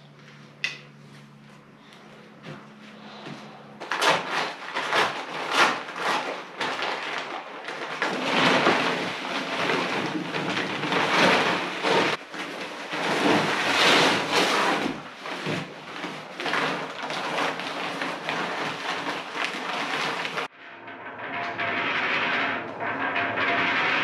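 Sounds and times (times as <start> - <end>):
sand and cement scraping in buckets: 0.2 - 20.5, 21.2 - 24.0.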